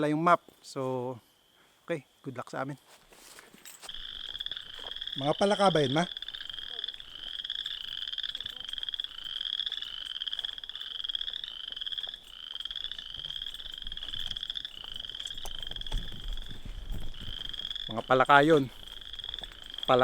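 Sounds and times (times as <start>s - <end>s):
frogs calling in trills: 3.8s - 20.0s.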